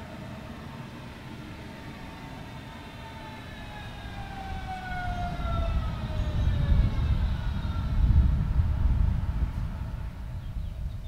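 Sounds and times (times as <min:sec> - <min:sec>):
electric train whine: 0:00.0 - 0:11.0
wheels rumbling on rails: 0:00.0 - 0:11.0.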